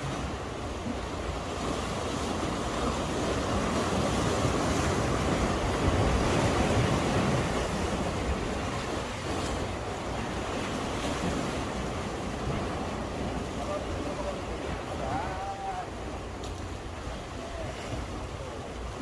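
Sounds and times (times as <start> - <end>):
waves breaking on breakwater: 0.0 - 19.0.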